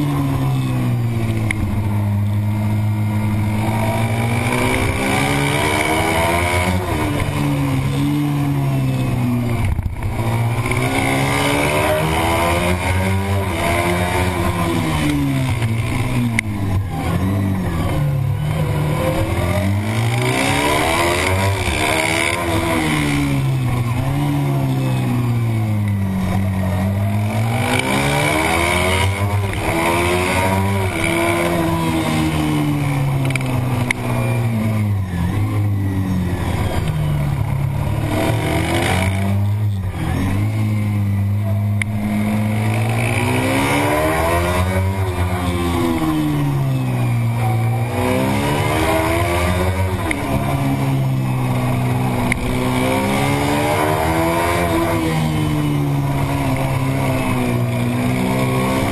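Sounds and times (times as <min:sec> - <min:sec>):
racing motorcycle engine revving: 0:00.0 - 0:58.9.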